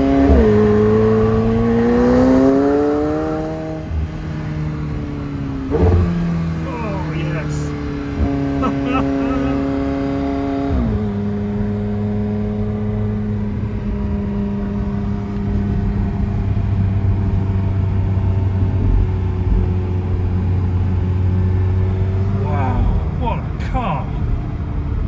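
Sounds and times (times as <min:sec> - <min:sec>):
car engine shifting up: 0:00.0 - 0:25.0.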